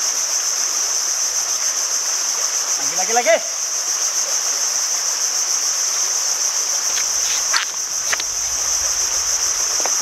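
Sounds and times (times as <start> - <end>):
insect chorus shrilling: 0.0 - 10.0.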